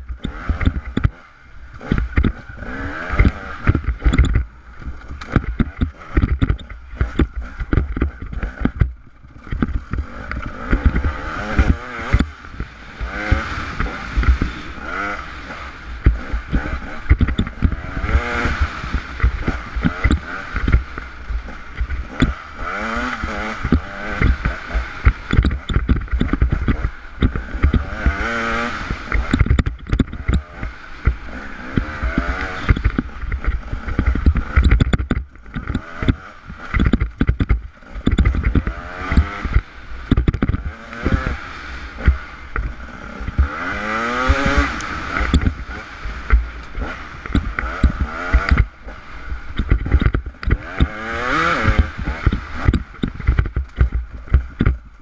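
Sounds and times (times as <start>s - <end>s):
camera rattling and knocking: 0.0s - 55.0s.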